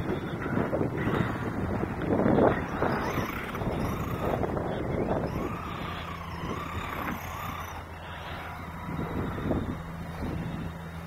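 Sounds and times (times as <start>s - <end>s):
gusty noise: 0.0s - 11.0s
rc car electric motor whining: 0.0s - 11.0s.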